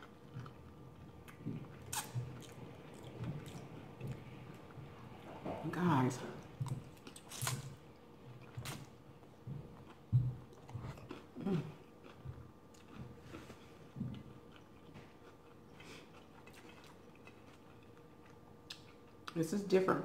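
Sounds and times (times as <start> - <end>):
wet chewing: 0.0 - 5.3, 6.4 - 9.0, 9.7 - 19.3.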